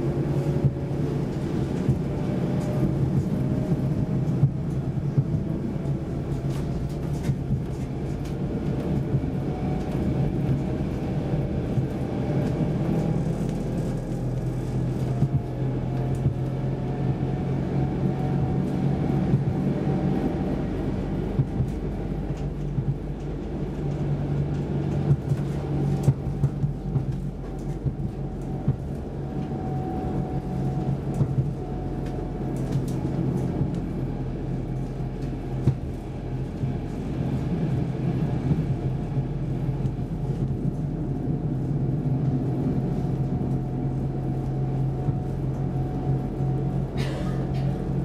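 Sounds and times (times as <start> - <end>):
electric train low rumble: 0.0 - 48.0.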